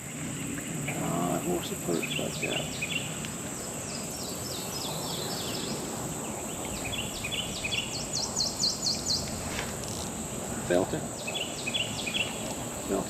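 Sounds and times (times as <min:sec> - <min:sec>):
high insect drone: 0:00.0 - 0:13.0
low outdoor hiss: 0:00.0 - 0:13.0
songbird singing: 0:00.0 - 0:13.0.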